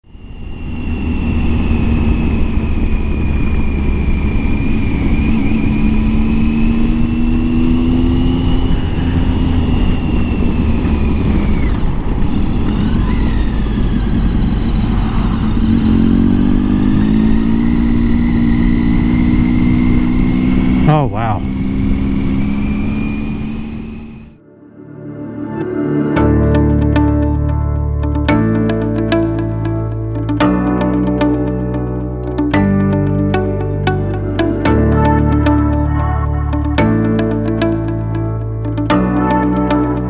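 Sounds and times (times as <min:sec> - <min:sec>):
motorcycle engine accelerating: 0:00.0 - 0:24.4, 0:26.5 - 0:40.0.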